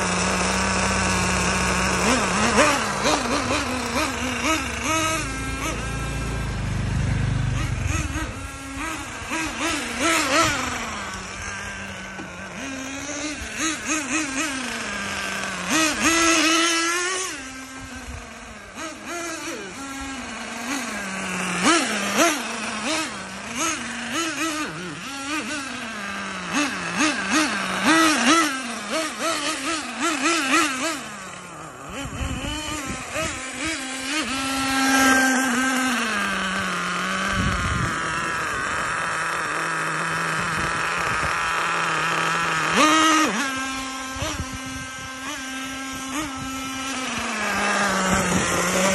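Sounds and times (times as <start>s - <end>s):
rc car engine revving: 0.0s - 48.9s.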